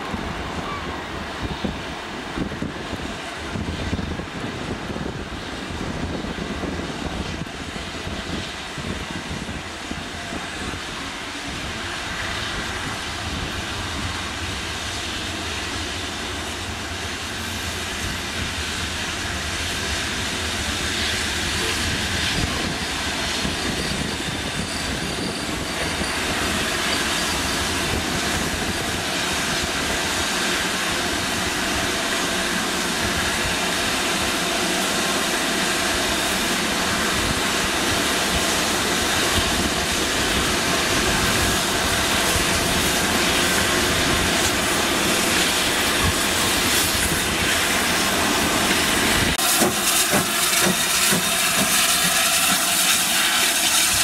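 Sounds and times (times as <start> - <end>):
steam locomotive moving on rails: 0.0 - 54.0.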